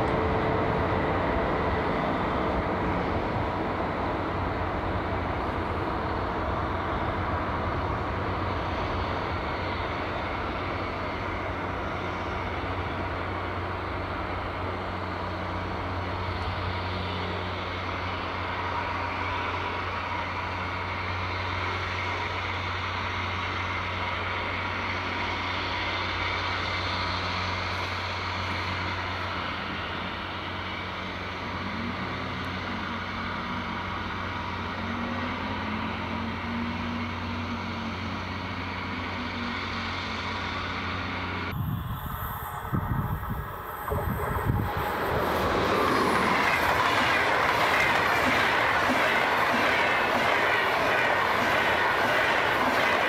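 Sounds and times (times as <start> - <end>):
high-speed train hum and rumble: 0.0 - 53.0.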